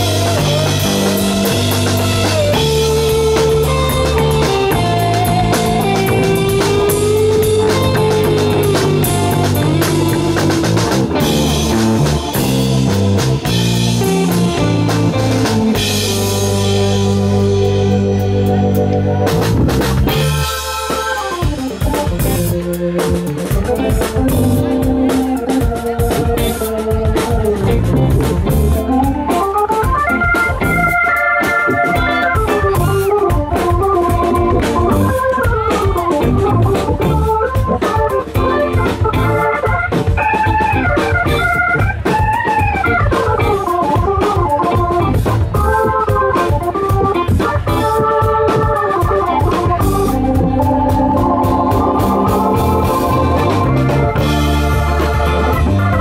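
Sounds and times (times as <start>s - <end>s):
bass: 0.0s - 56.0s
drums: 0.0s - 56.0s
organ-like lead melody: 0.0s - 56.0s.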